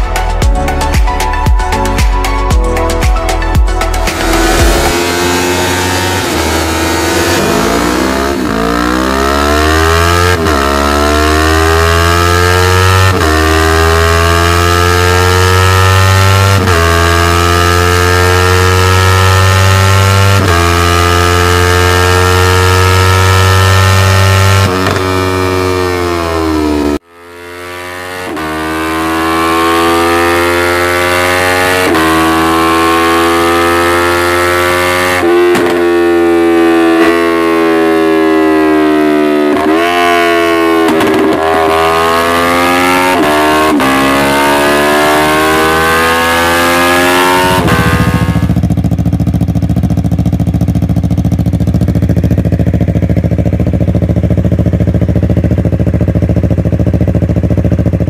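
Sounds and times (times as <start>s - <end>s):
motorcycle engine revving: 4.0s - 58.0s.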